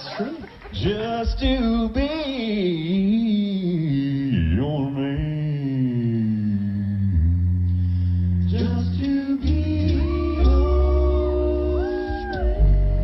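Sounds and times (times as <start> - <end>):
male a cappella group singing: 0.8 - 7.2, 8.5 - 13.0.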